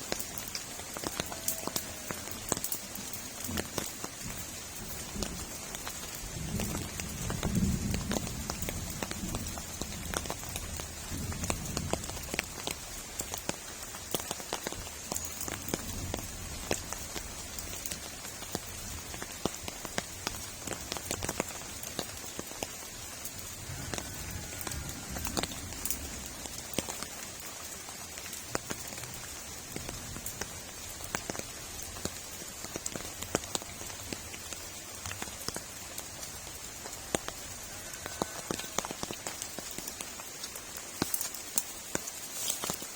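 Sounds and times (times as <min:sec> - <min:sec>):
heavy rain falling: 0:00.0 - 0:42.9
raindrops striking hard: 0:00.0 - 0:42.9.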